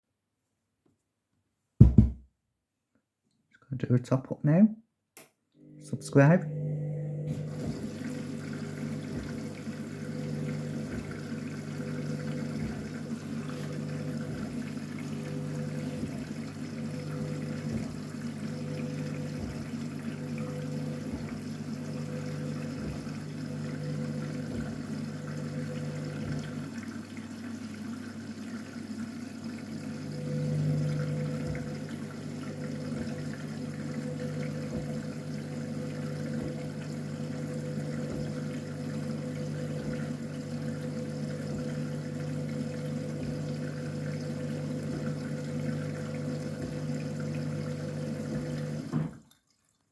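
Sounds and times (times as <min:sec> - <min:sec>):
water running into washing machine: 0:05.6 - 0:49.9.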